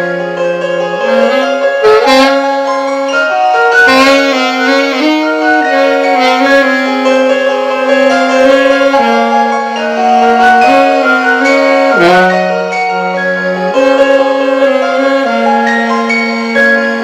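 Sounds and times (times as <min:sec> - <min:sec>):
saxophone slow melody: 0:00.0 - 0:17.0.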